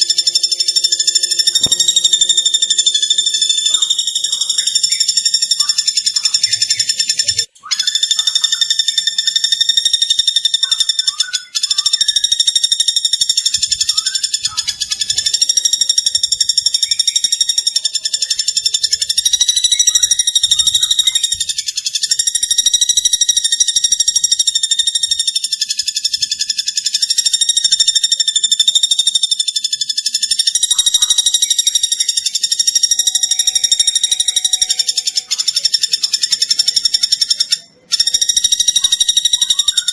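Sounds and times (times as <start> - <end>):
high-pitched rapid insect trill: 0.0 - 39.9.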